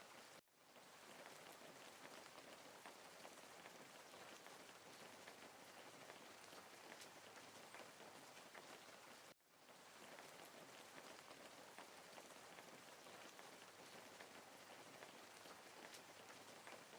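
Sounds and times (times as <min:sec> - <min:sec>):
faint steady rainfall: 0:00.0 - 0:16.9
raindrops pattering: 0:00.0 - 0:16.9.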